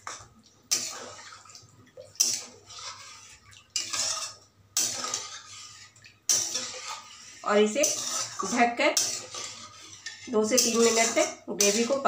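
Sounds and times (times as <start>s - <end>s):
spatula scraping metal pan: 0.0s - 1.5s, 2.2s - 12.0s.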